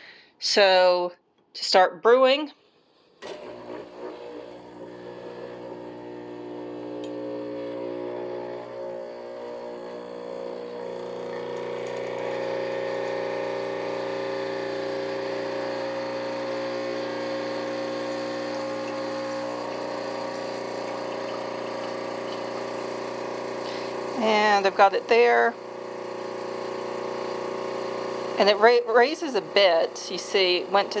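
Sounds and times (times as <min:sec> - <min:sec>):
espresso machine pump humming: 0:03.2 - 0:31.0.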